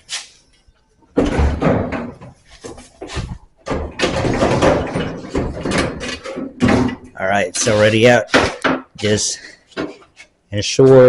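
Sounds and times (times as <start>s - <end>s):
metal clattering and scraping: 1.2s - 10.4s.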